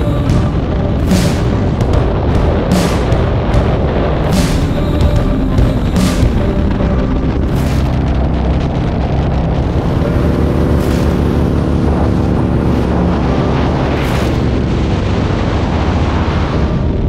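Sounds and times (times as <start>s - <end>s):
motorcycle engine rumble: 0.0s - 17.0s
wind buffeting microphone: 0.0s - 17.0s.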